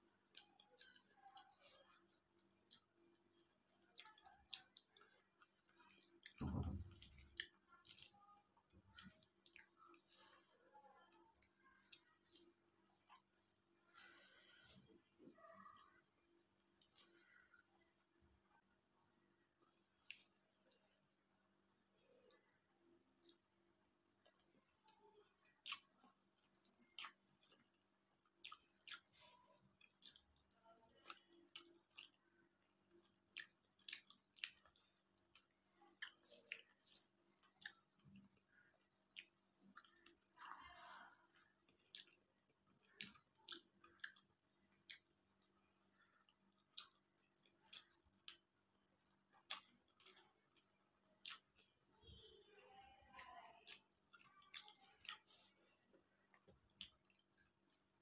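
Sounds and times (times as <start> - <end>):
person chewing and lip smacking: 0.2 - 18.2, 19.3 - 21.2, 21.8 - 23.5, 24.1 - 52.2, 53.0 - 58.0.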